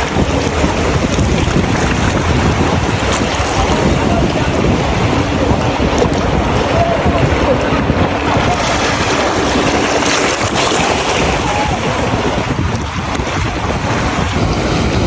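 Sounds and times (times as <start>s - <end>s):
surf waves washing: 0.0s - 15.0s
wind buffeting microphone: 0.0s - 15.0s.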